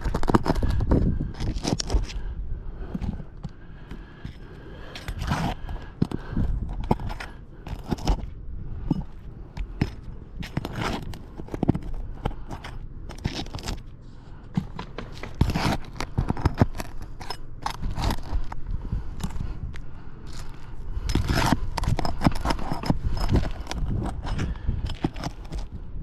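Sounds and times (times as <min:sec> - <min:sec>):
scraping and crunching on roof: 0:00.0 - 0:26.0.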